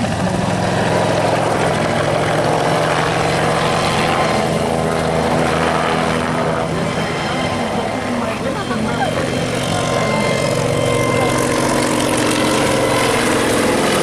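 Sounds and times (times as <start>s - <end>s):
low-flying aircraft engine: 0.0s - 14.0s.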